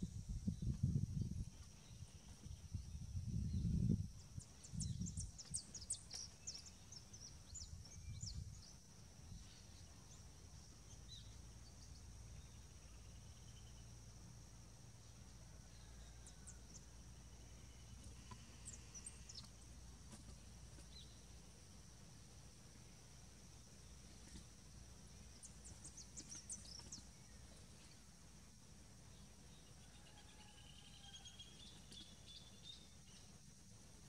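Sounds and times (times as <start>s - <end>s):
faint high insect whine: 0.0s - 34.0s
small birds chirping: 0.1s - 14.0s, 16.1s - 21.7s, 22.6s - 34.0s.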